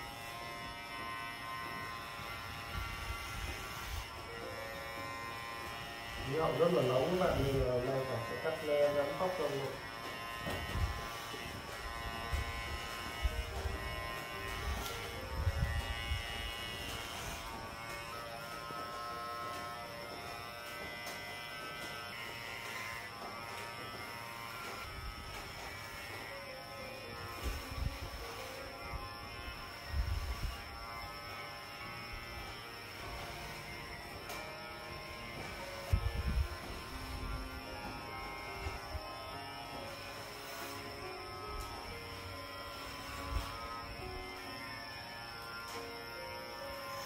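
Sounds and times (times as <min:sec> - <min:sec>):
electric hair clippers buzzing: 0:00.0 - 0:47.0.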